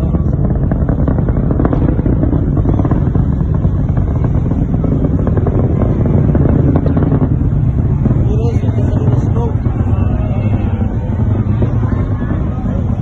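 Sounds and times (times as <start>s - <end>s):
distant rocket engine rumble: 0.0s - 13.0s.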